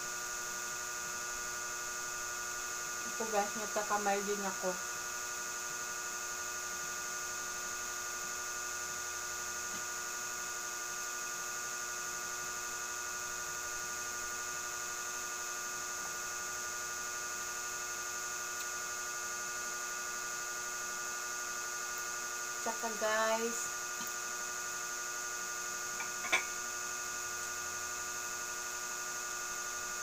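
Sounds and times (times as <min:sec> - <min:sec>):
electric fan humming: 0:00.0 - 0:30.0.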